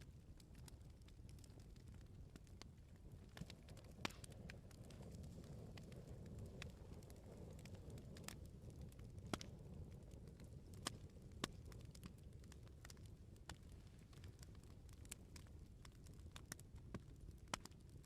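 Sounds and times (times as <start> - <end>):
bonfire crackling and popping: 0.0 - 18.0
low rumble of burning logs: 0.0 - 18.0.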